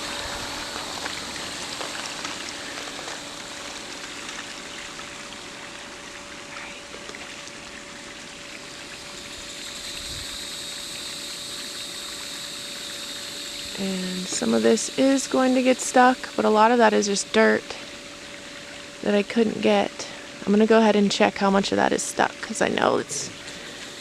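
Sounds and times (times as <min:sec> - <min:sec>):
pool pump humming: 0:00.0 - 0:24.0
water rushing: 0:00.0 - 0:24.0.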